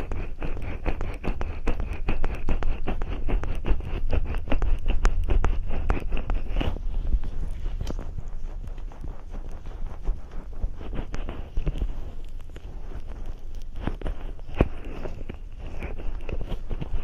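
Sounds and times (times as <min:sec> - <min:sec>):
fingers scratching on microphone: 0:00.0 - 0:17.0.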